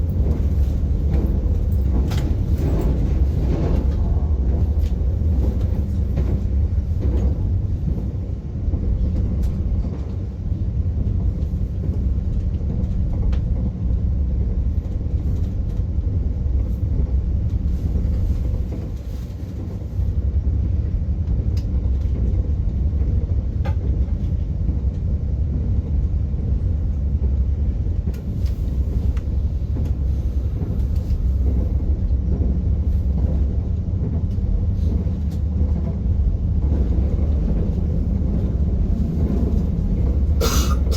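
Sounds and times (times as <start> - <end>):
train wheels rumbling on track: 0.0 - 40.9.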